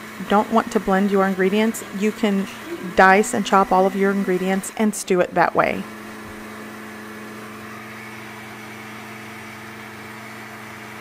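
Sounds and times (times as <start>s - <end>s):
blender motor running: 0.0s - 11.0s.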